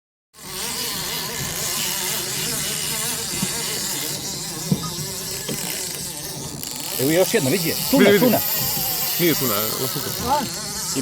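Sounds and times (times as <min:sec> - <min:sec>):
boat motor buzzing drone: 0:00.4 - 0:11.0
wind: 0:00.4 - 0:11.0.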